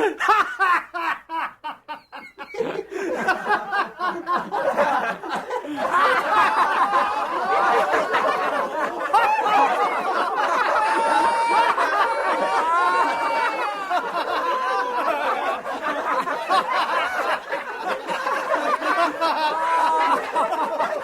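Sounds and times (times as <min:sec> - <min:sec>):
people laughing: 0:00.0 - 0:21.0.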